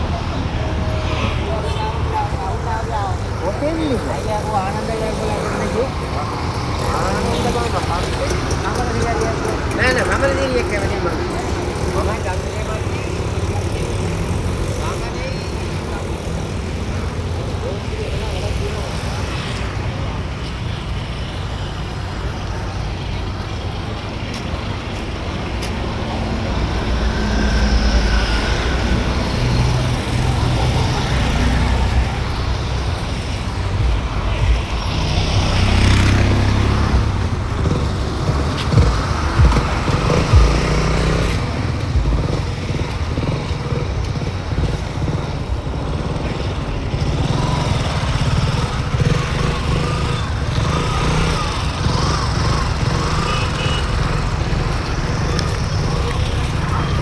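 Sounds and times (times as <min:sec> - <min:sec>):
passing vehicles rumble: 0:00.0 - 0:57.0.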